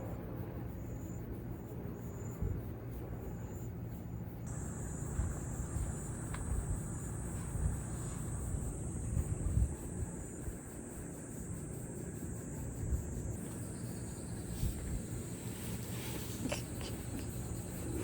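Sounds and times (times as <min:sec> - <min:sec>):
insects chirping: 0:00.0 - 0:18.0
insect buzzing song: 0:03.3 - 0:18.0.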